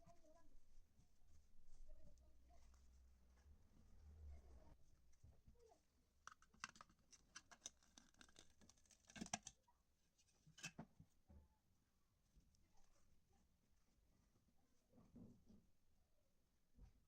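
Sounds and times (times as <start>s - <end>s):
faint scratching and clicking: 0.0s - 15.8s.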